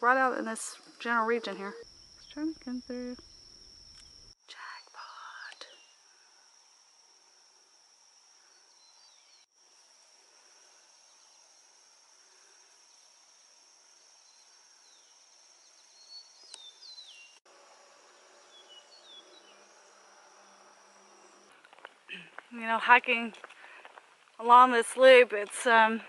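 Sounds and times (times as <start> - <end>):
high-pitched insect drone: 0.2 - 23.4.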